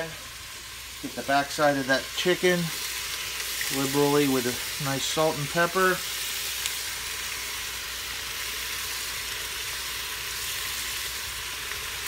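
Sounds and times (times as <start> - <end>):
chicken searing in oil: 0.0 - 12.0.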